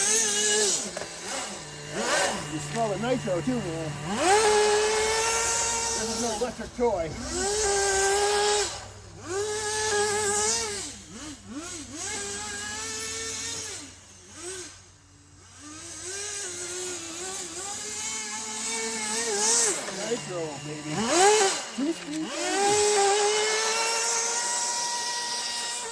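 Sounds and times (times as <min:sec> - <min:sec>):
small engine revving: 0:00.0 - 0:25.9.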